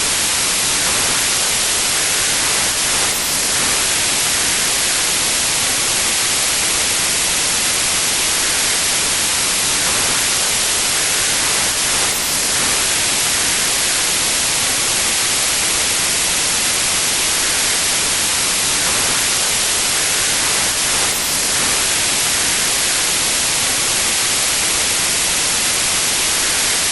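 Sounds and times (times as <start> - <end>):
static hiss: 0.0 - 26.9.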